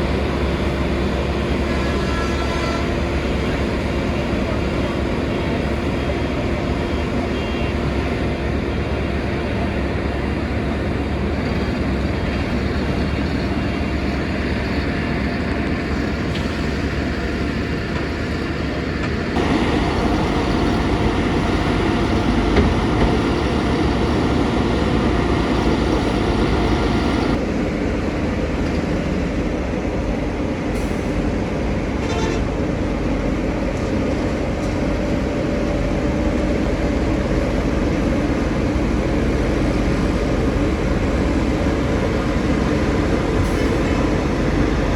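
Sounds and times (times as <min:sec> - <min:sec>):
passing traffic: 0:00.0 - 0:44.9.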